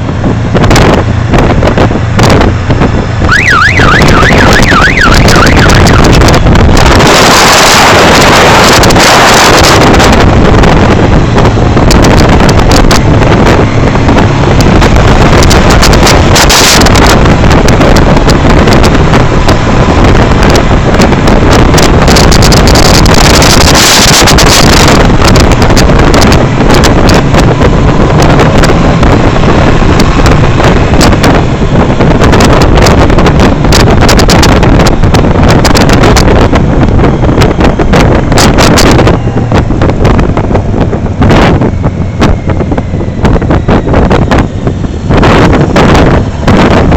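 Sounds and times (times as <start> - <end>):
motorcycle engine: 0.0 - 46.9
road noise: 0.0 - 46.9
wind buffeting microphone: 0.0 - 46.9.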